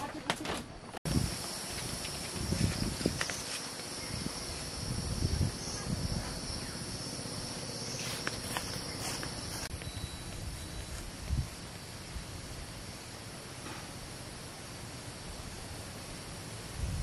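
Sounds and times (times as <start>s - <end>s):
insects chirring: 1.1s - 17.0s.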